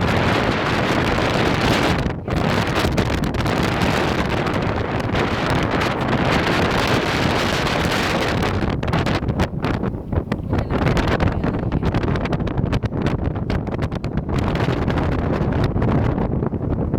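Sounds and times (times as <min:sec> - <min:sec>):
gusty wind buffeting microphone: 0:00.0 - 0:16.9.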